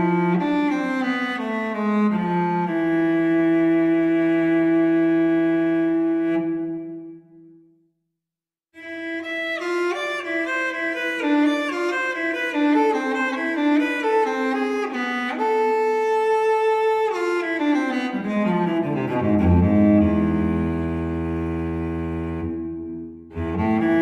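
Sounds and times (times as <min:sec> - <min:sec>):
solo cello slow melody: 0:00.0 - 0:07.4, 0:08.8 - 0:24.0.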